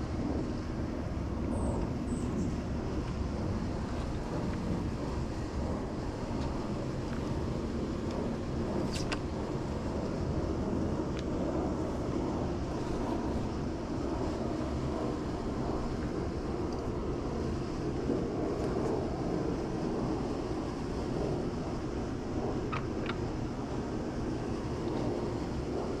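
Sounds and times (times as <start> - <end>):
pool pump rumbling: 0.0 - 26.0.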